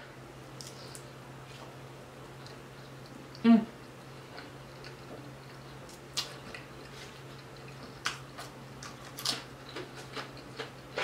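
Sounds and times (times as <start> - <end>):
faint steady hum: 0.0 - 11.0
person chewing with wet smacks: 0.6 - 11.0.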